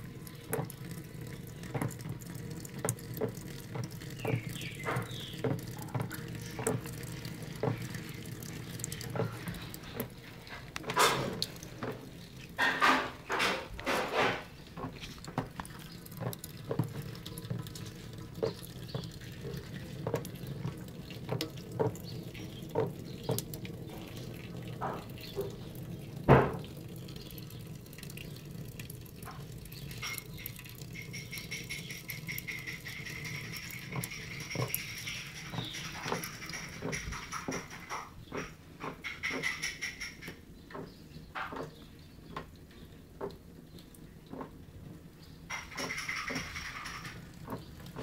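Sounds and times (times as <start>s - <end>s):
kitten lapping water: 0.0s - 12.7s, 13.7s - 40.3s, 42.4s - 48.0s.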